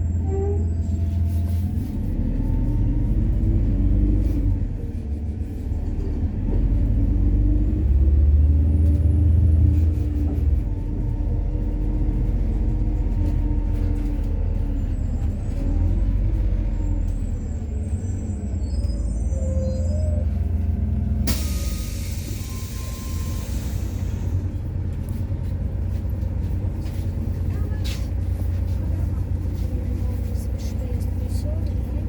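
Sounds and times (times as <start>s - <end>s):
bus engine rumble: 0.0s - 32.0s.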